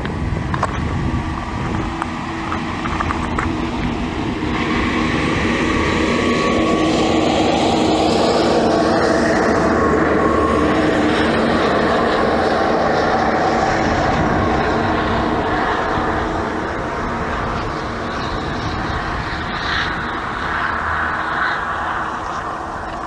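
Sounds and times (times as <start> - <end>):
engine drone: 0.0 - 23.0
rushing noise: 0.0 - 23.0.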